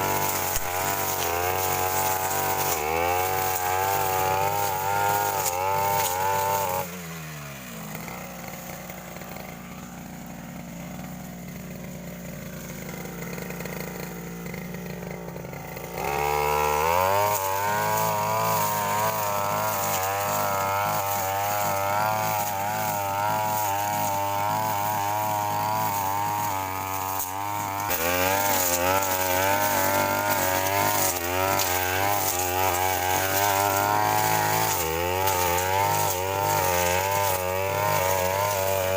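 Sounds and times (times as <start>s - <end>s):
brush cutter engine: 0.0s - 38.9s.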